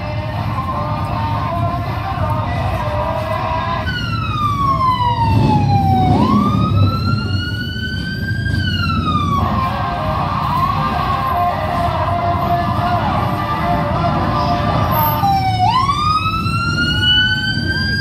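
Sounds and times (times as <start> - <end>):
fire truck siren wailing: 0.0 - 2.3, 3.0 - 18.0
crowd din: 0.0 - 18.0.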